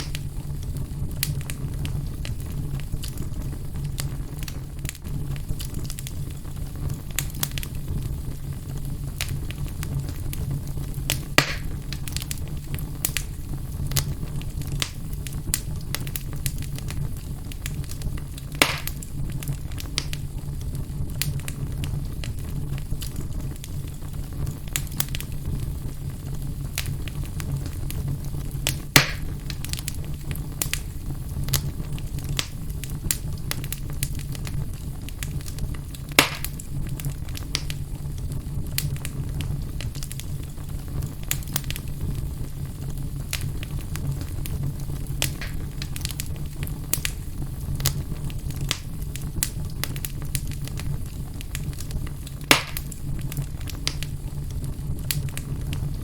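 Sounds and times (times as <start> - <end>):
fire crackling in a fireplace: 0.0 - 56.0
loud fire pops: 0.0 - 56.0.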